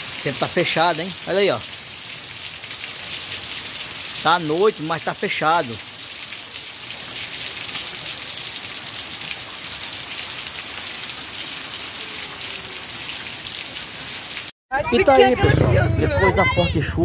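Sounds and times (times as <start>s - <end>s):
rain falling on standing water: 0.0s - 14.5s.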